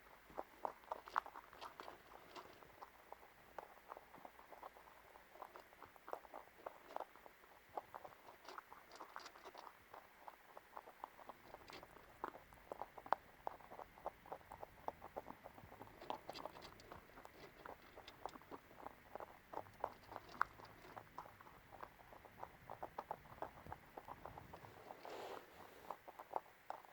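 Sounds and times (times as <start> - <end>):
rabbit chewing crunchily: 0.0 - 26.9.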